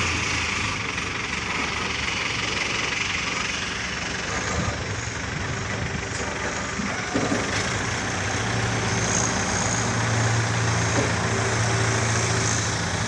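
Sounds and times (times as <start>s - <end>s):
crane diesel engine running: 0.0s - 13.0s.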